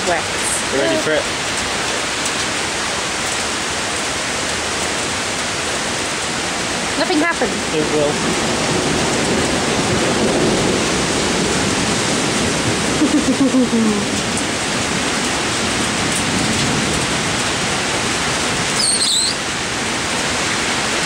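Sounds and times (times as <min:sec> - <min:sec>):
torrential rain pouring: 0:00.0 - 0:21.0.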